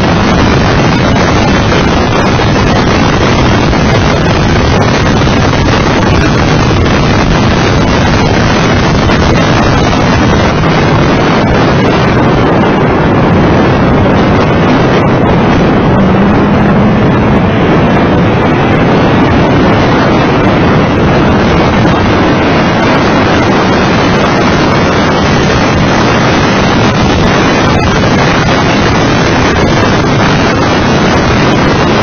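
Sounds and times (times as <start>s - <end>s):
car engine and road noise: 0.0s - 32.0s
wind buffeting on microphone: 0.0s - 32.0s.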